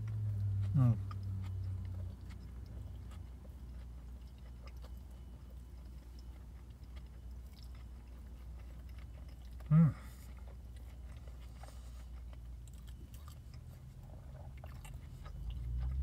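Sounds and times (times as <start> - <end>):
person chewing food: 0.0 - 16.0
small eating clicks: 0.0 - 16.0.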